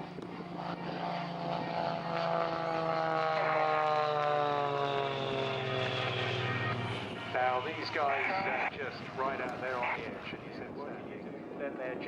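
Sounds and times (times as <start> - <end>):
propeller planes flying past: 0.0 - 12.0.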